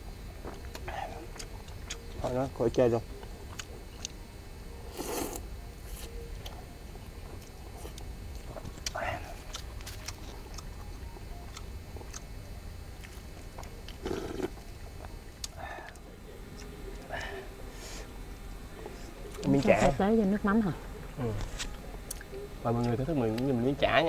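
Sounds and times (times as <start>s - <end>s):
people chewing: 0.4s - 4.2s, 4.8s - 20.0s, 21.2s - 23.6s.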